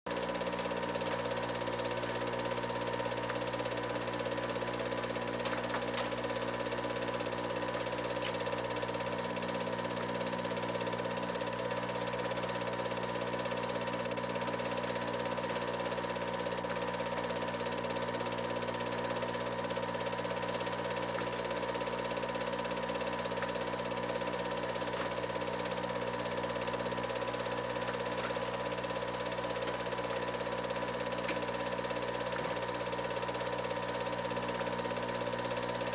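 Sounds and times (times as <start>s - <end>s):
film projector running: 0.1s - 35.9s.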